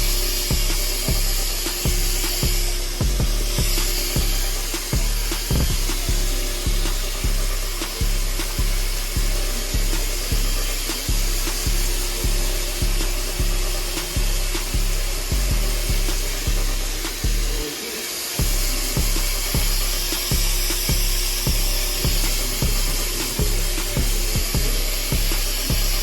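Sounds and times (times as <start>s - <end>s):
deep bass hit: 0.0s - 17.6s, 18.4s - 26.0s
hip-hop beat: 0.0s - 26.0s.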